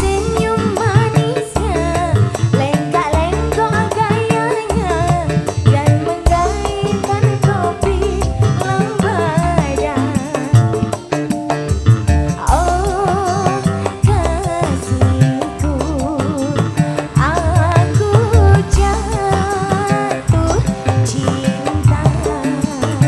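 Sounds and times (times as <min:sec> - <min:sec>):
hand drum beat: 0:00.0 - 0:23.0
live band playing: 0:00.0 - 0:23.0
ornamented melody line: 0:00.0 - 0:23.0.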